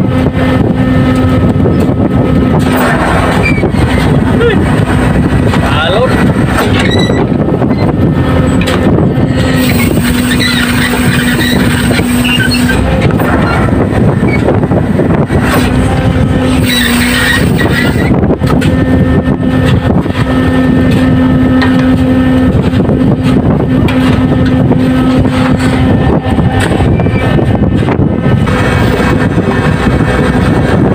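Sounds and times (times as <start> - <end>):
boat engines droning: 0.0 - 30.9
deck winch hoisting: 0.0 - 30.9
steady hum: 0.0 - 30.9.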